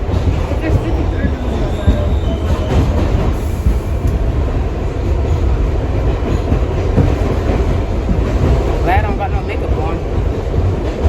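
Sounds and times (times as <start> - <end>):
subway train rumbling on track: 0.0 - 11.0.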